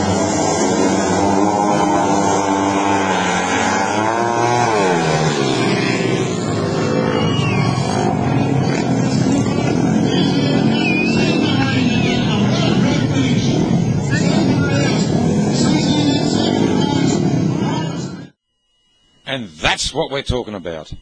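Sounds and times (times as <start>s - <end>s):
motorcycle engines revving: 0.0s - 18.4s.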